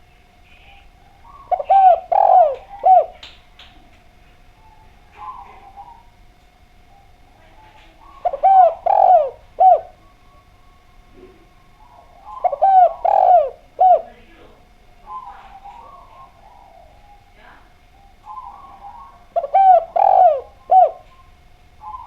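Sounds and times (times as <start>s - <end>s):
faint bird chirps: 0.0s - 14.2s, 14.8s - 22.0s
dove cooing: 0.0s - 22.0s.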